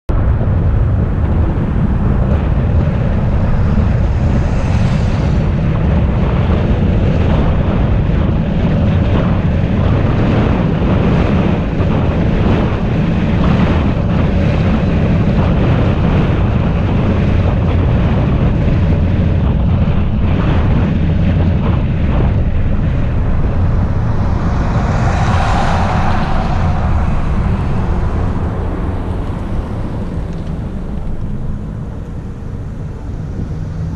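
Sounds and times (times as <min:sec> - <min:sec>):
car road rumble: 0:00.1 - 0:33.9
wind noise: 0:00.1 - 0:33.9.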